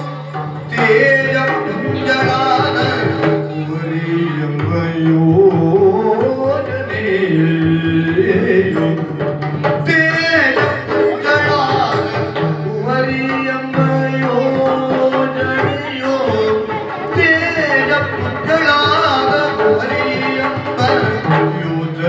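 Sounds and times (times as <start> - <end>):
drum strokes: 0.0 - 22.0
person singing: 0.0 - 22.0.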